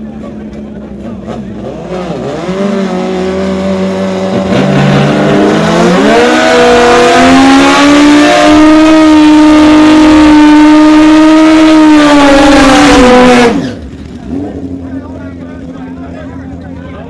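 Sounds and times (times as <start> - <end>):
motorcycle engine at full throttle: 0.0 - 17.0.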